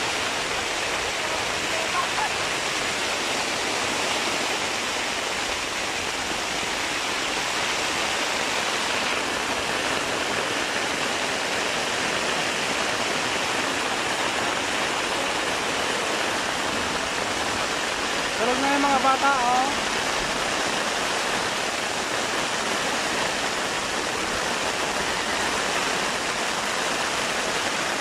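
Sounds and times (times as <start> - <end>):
heavy rain on tent roof: 0.0 - 28.0.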